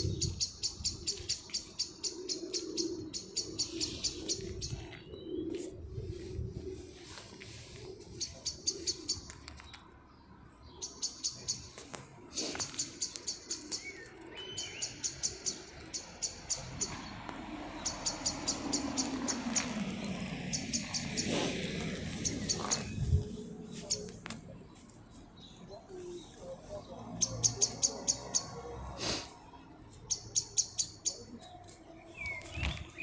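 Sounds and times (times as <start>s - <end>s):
songbird chirping: 0.0s - 6.3s, 7.0s - 33.0s.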